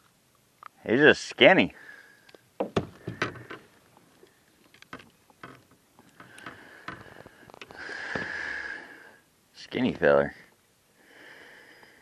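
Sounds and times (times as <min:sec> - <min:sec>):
steady hiss: 0:00.8 - 0:12.0.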